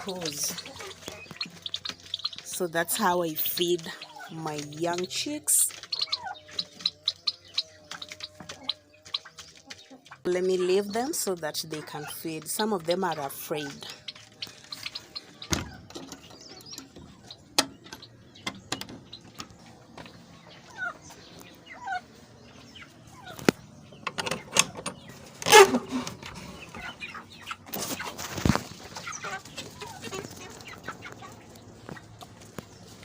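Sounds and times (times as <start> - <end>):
chicks chirping: 0.0 - 33.0.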